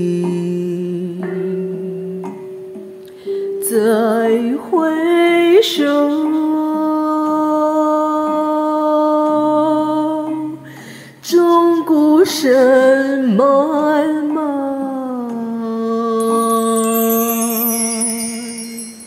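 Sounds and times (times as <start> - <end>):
person singing long held notes: 0.0 - 19.0
soft musical accompaniment: 0.0 - 19.0.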